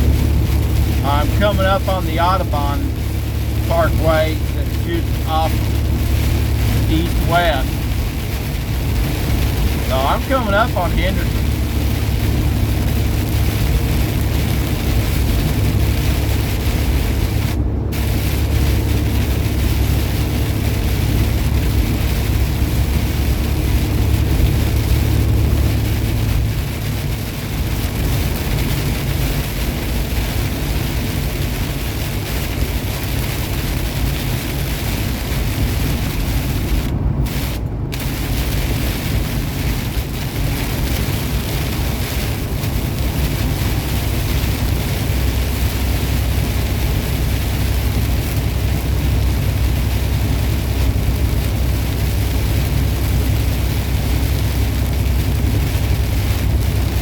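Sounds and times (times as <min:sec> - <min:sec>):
truck engine rumble: 0:00.0 - 0:57.0.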